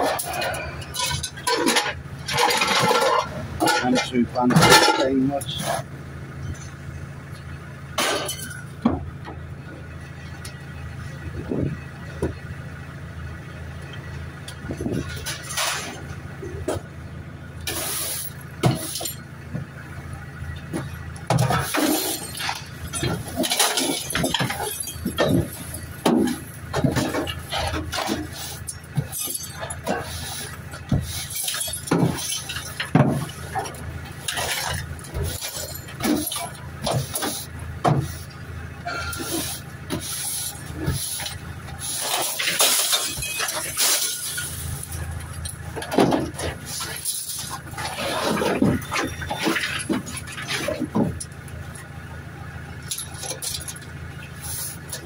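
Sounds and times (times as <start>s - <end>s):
scrap metal clanking and crashing: 0.0s - 12.5s, 14.0s - 55.0s
low engine hum: 0.0s - 55.0s.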